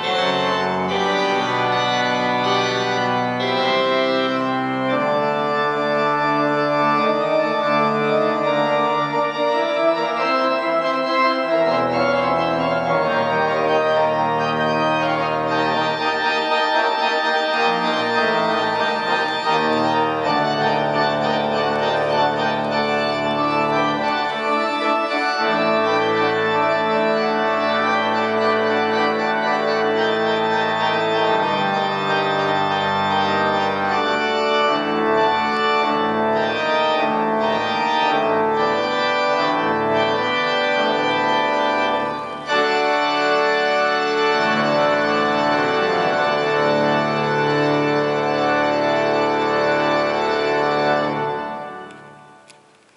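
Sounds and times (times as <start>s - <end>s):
church organ playing chords: 0.0s - 52.9s.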